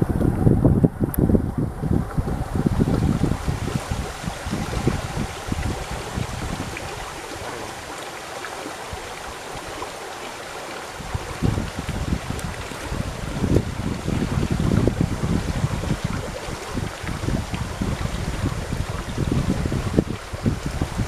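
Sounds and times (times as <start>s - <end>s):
microphone buffeting rumble: 0.0s - 8.0s, 10.9s - 21.0s
flowing river water: 0.0s - 21.0s.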